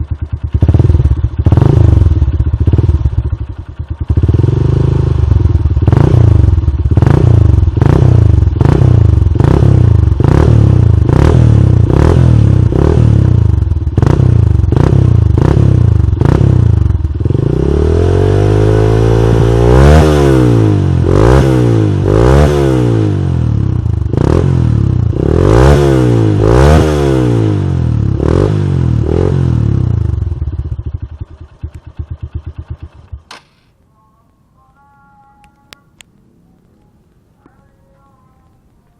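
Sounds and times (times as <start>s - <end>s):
motorcycle engine revving: 0.0s - 33.8s.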